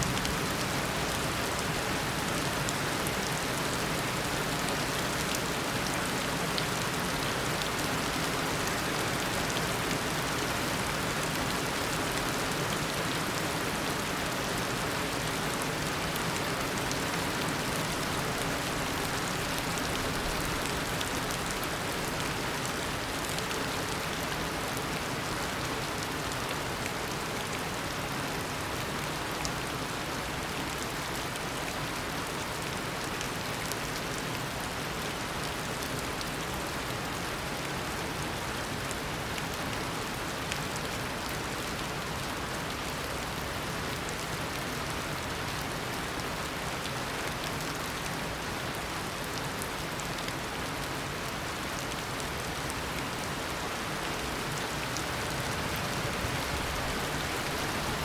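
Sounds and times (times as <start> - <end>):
heavy rain pattering on leaves: 0.0 - 58.0.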